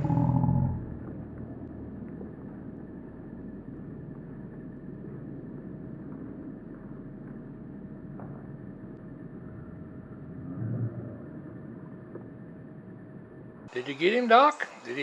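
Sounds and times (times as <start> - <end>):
low rumble: 0.0 - 13.7
faint constant hum: 0.0 - 15.0.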